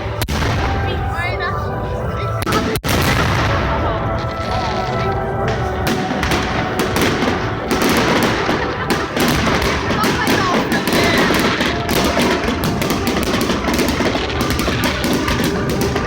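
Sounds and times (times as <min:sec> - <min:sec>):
crowd voices: 0:00.0 - 0:16.0
fireworks bangs and crackles: 0:00.0 - 0:16.0
music: 0:00.0 - 0:16.0.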